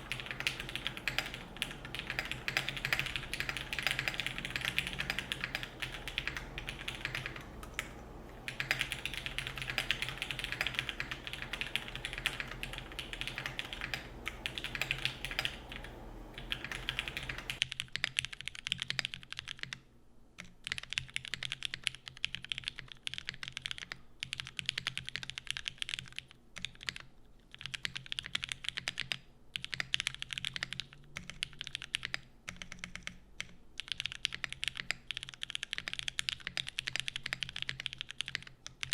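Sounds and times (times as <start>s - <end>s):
rapid typing on keyboard: 0.0s - 19.8s, 20.4s - 38.9s.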